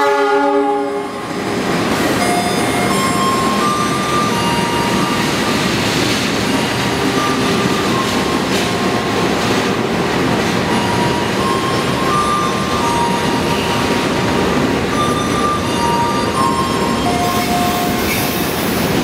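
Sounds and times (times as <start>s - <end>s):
train coaches rumbling: 0.0s - 19.0s
locomotive passing: 1.2s - 19.0s.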